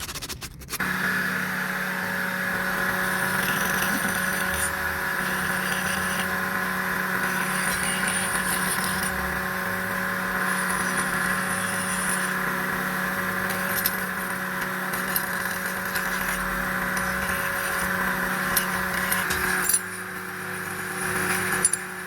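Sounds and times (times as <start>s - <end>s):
workshop machine humming: 0.6s - 22.0s.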